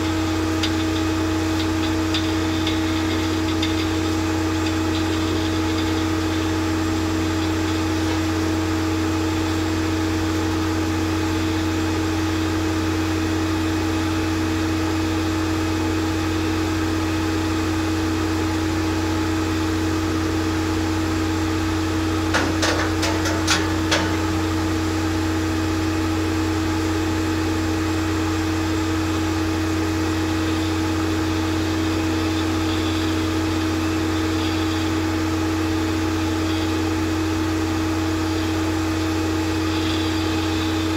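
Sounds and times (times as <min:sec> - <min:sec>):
drilling rig humming: 0:00.0 - 0:40.9.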